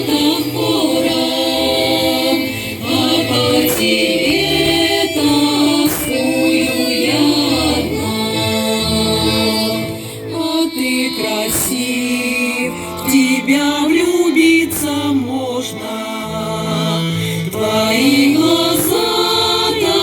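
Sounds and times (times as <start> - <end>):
choir singing sustained notes: 0.0 - 20.0
low instrumental accompaniment: 0.0 - 20.0.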